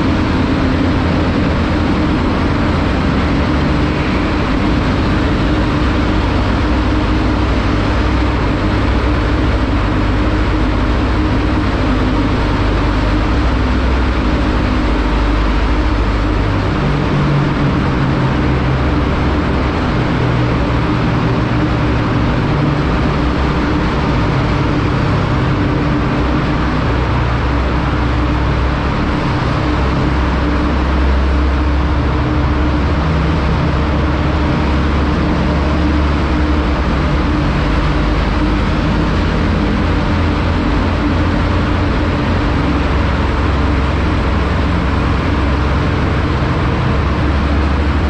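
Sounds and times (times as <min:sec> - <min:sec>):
wind and road noise: 0:00.0 - 0:48.0.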